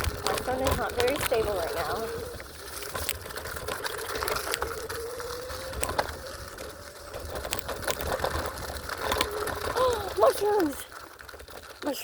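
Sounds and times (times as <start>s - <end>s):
wind rumble on microphone: 0.0s - 10.8s
electric scooter motor whine: 0.0s - 11.8s
clicks and rattles: 0.0s - 12.0s.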